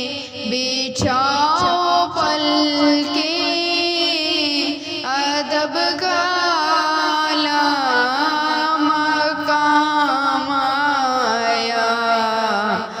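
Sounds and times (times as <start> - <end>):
person singing long wavering notes: 0.0 - 13.0.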